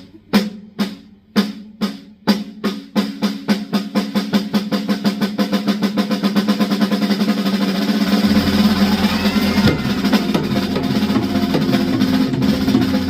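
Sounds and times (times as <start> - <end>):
snare drum roll: 0.4 - 13.0.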